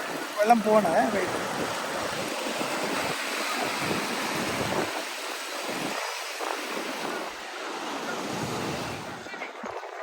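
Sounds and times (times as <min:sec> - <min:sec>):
waves washing on beach: 0:00.0 - 0:10.0
wind gusting on microphone: 0:00.0 - 0:10.0.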